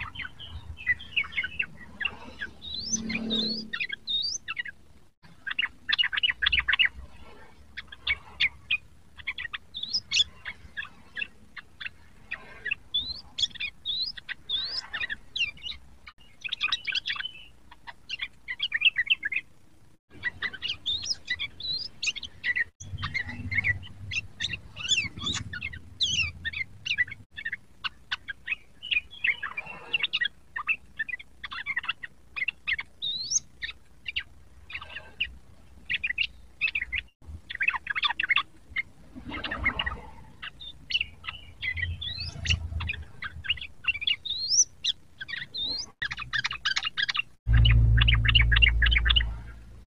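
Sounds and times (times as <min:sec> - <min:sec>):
bird song chirping and whistling: 0:00.0 - 0:04.8, 0:05.4 - 0:07.0, 0:07.8 - 0:17.5, 0:20.2 - 0:35.0, 0:39.4 - 0:49.4.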